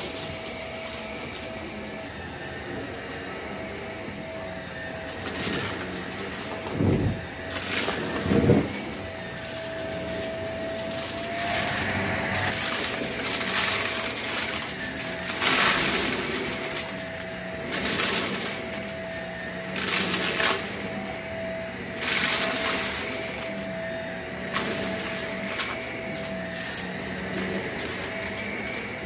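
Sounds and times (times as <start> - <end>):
vacuum cleaner motor whine: 0.0 - 29.0
debris sucked up by vacuum: 5.1 - 29.0.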